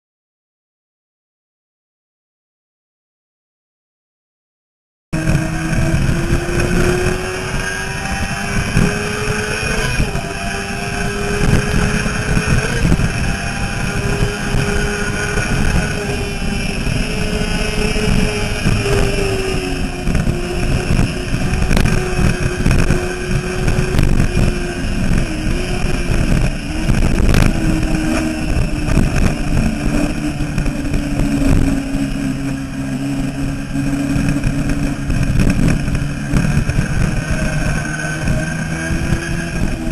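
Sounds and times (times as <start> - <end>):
motorcycle engine at high revs: 5.2 - 39.9
wind rush on microphone: 5.2 - 39.9.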